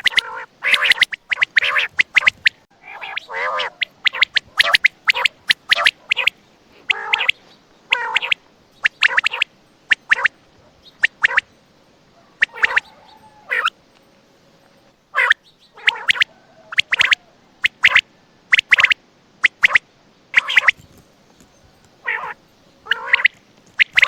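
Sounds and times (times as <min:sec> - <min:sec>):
quail calling: 0:00.0 - 0:11.5, 0:12.1 - 0:13.8, 0:15.1 - 0:19.8, 0:20.4 - 0:24.0.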